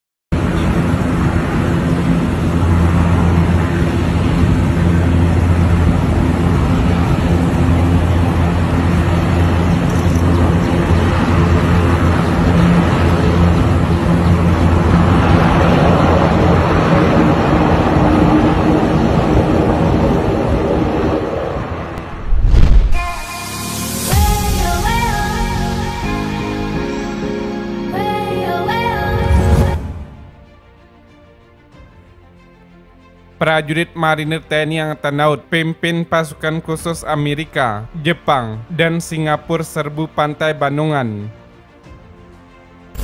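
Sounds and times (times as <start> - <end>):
deep engine and propeller hum: 0.3 - 34.2, 41.3 - 43.0.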